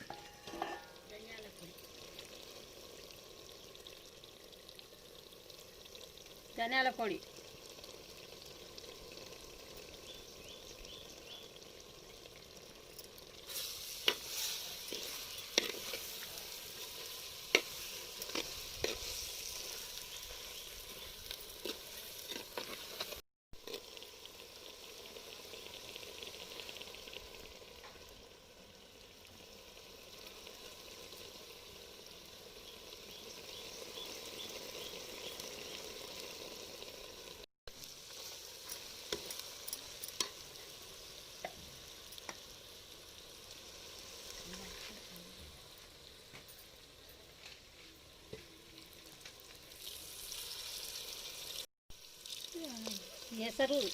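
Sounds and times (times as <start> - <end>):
chicken sizzling in a pan: 0.0 - 53.9.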